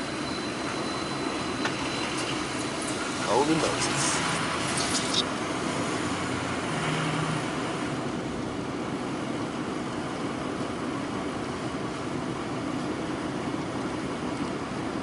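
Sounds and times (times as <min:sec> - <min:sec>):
car driving engine and tyres: 0:00.0 - 0:15.0.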